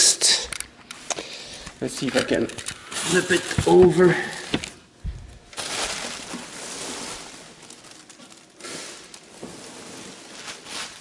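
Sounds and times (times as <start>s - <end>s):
plastic sheeting crinkling: 1.9s - 11.0s.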